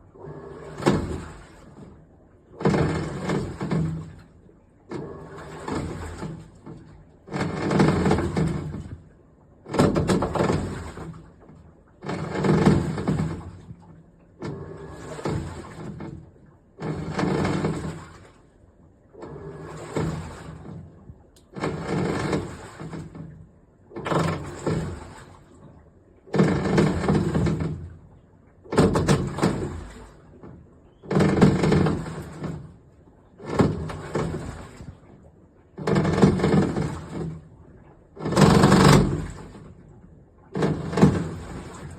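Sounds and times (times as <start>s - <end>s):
washing machine swirling water: 0.0s - 41.9s.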